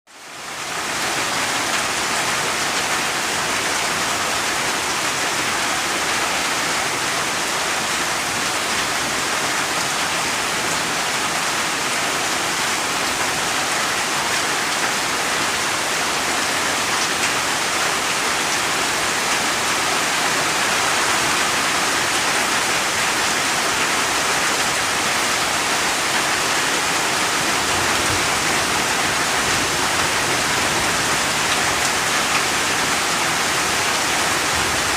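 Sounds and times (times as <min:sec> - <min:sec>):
heavy rainfall: 0:00.1 - 0:34.9.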